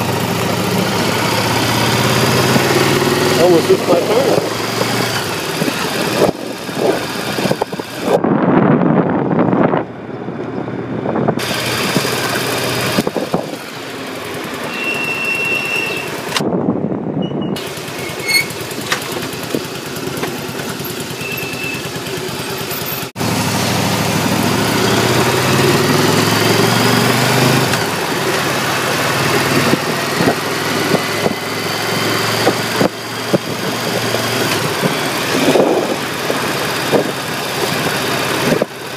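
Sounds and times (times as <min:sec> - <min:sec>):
rushing wind noise: 0:00.0 - 0:13.9, 0:15.4 - 0:19.8, 0:23.9 - 0:38.9
motorcycle engine accelerating: 0:00.0 - 0:16.8, 0:17.6 - 0:38.9.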